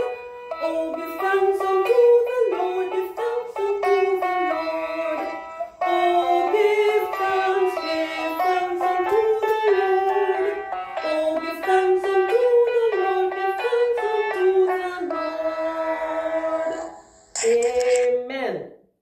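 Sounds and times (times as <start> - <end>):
woman singing: 0.0 - 18.6.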